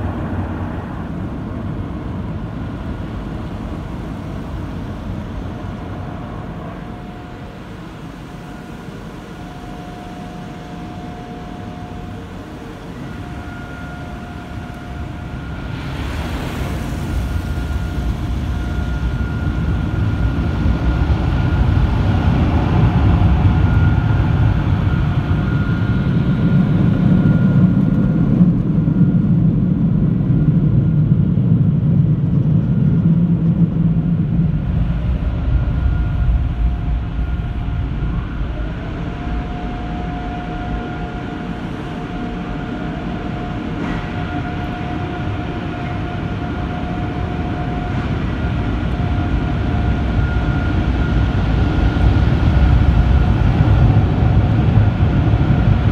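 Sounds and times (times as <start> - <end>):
car wash machinery rumble: 0.0 - 55.9
constant high whine: 0.0 - 55.9.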